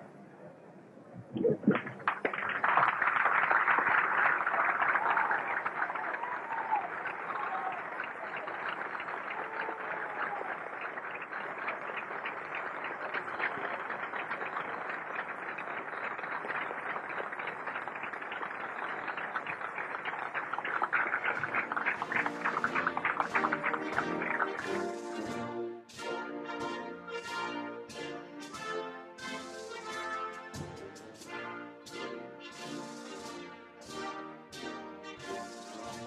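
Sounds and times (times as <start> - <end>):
large crowd applauding: 1.5 - 36.0.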